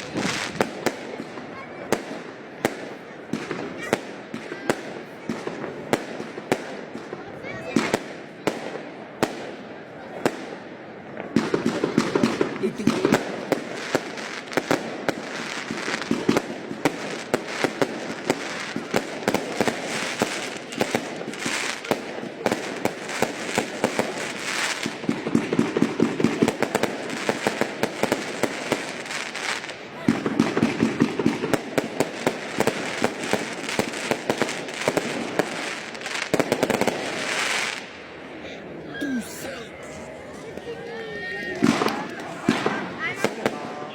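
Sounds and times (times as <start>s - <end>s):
fireworks bangs and crackles: 0.0s - 38.4s, 40.4s - 43.9s
crowd voices: 0.0s - 43.9s.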